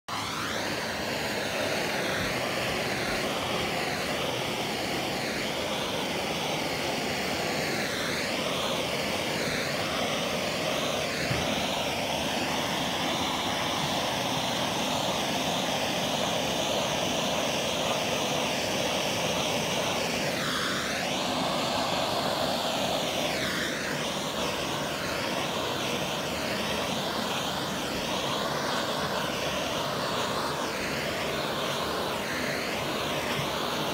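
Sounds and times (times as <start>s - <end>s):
gas torch flame hissing: 0.1s - 33.9s.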